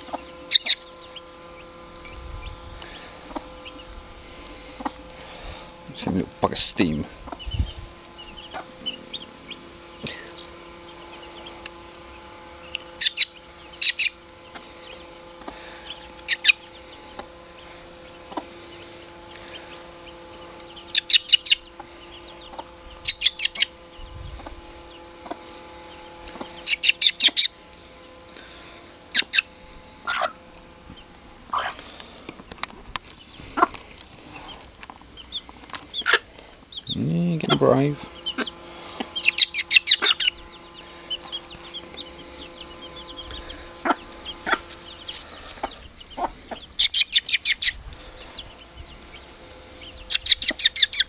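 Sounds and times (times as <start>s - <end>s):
chicks chirping: 0.0s - 51.0s
hen clucking: 0.0s - 51.0s.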